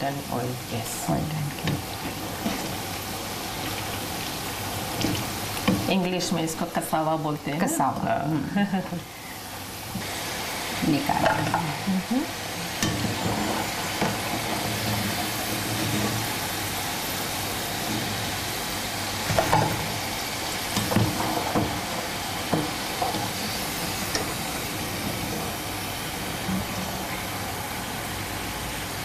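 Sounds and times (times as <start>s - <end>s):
food deep-frying in oil: 0.0s - 29.0s.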